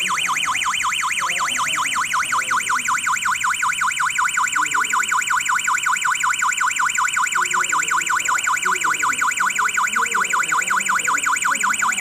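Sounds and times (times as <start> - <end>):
alarm siren warbling: 0.0 - 12.0.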